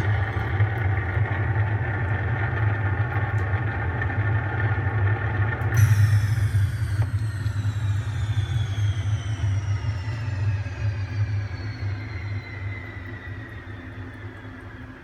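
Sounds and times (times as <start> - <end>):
whine gliding down in pitch: 0.0 - 4.2, 5.6 - 15.0
low rumble: 0.0 - 4.3, 5.8 - 15.0.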